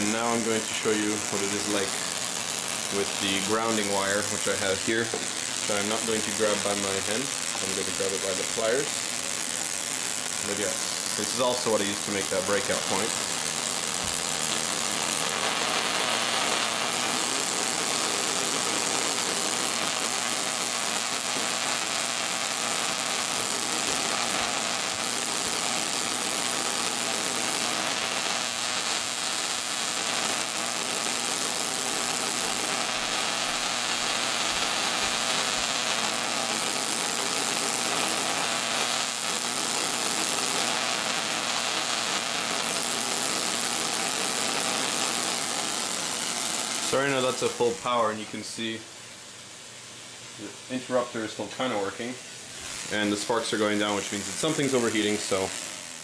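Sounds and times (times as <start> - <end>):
tesla coil spark buzzing: 0.0 - 56.0.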